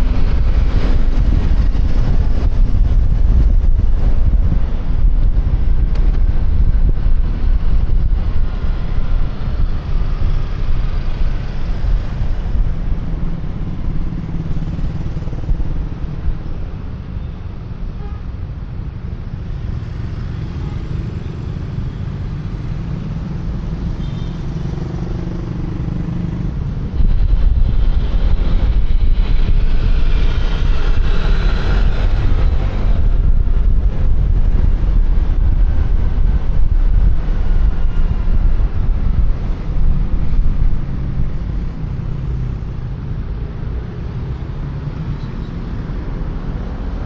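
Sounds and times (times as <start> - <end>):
passing traffic: 0.0 - 47.0
wind rushing over microphone: 0.0 - 47.0.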